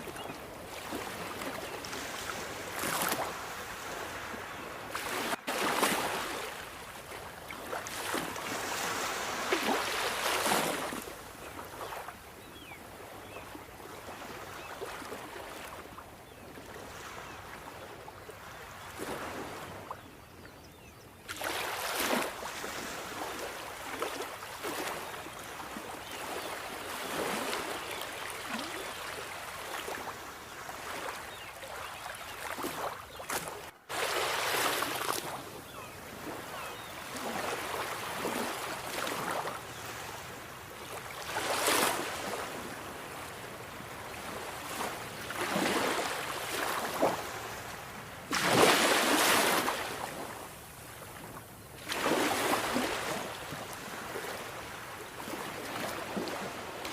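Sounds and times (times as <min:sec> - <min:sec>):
sea waves breaking on shore: 0:00.0 - 0:16.0, 0:21.2 - 0:56.9.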